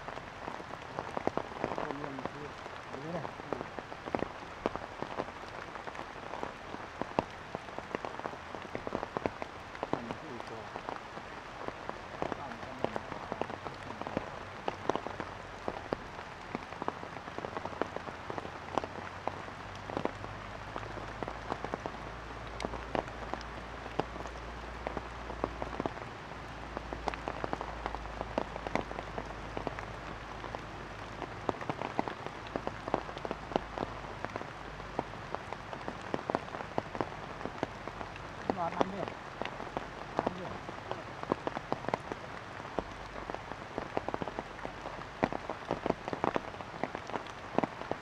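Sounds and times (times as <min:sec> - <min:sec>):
raindrops on leaves: 0:00.0 - 0:48.0
steady rain hiss: 0:00.0 - 0:48.0.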